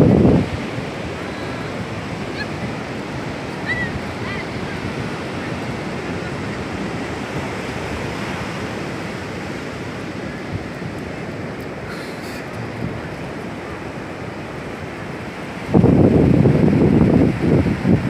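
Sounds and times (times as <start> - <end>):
ocean waves washing up beach: 0.0 - 18.0.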